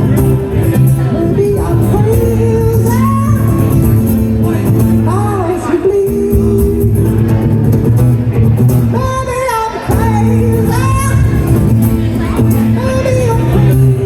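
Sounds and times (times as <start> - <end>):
man singing: 0.0 - 7.5, 8.8 - 14.0
instrumental accompaniment: 0.0 - 14.0.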